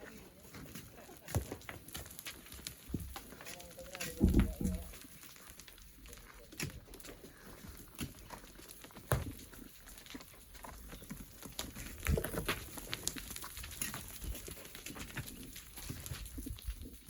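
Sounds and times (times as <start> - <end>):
hand tools knocking and scraping rock: 0.0 - 17.0.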